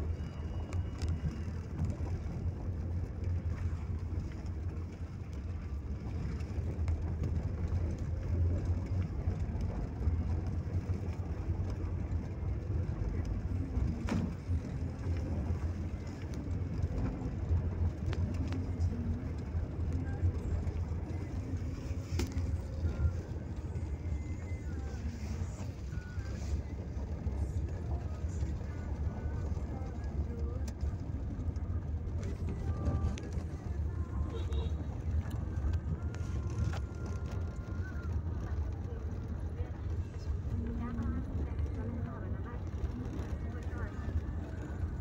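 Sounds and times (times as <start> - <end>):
engine and road rumble: 0.0 - 45.0.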